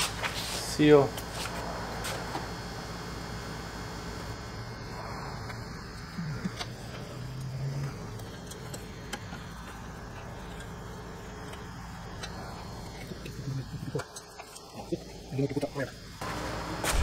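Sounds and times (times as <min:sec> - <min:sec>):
workshop fan humming: 0:00.0 - 0:17.0.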